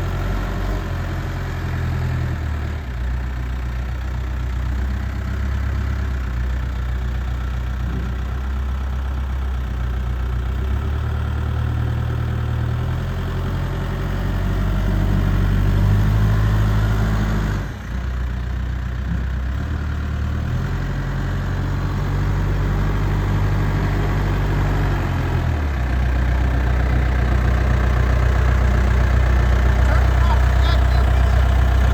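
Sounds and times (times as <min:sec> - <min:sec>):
backhoe diesel engine running: 0:00.0 - 0:31.9.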